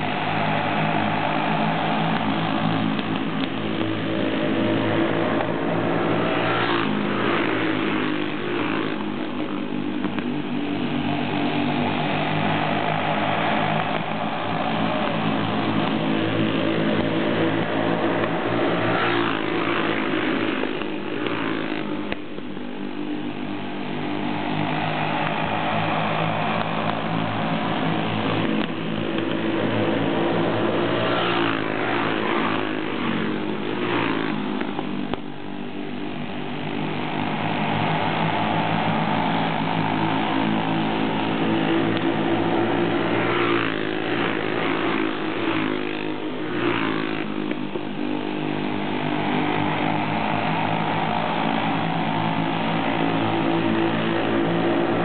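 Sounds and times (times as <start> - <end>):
racing kart engines: 0.0 - 55.0.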